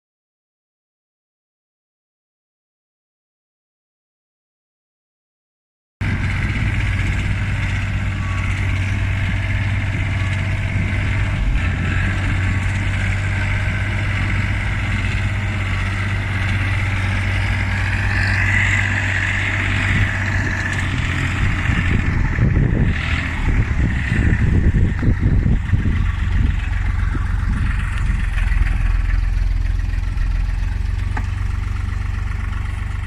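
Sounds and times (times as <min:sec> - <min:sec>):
diesel engine running: 0:06.0 - 0:33.0.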